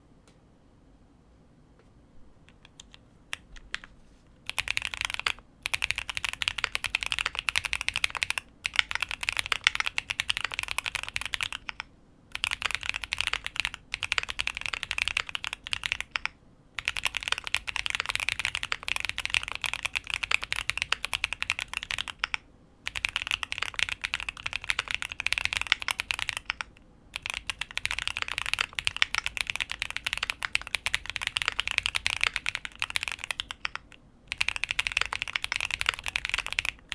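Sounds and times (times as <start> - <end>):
mechanical keyboard typing: 4.5 - 36.9.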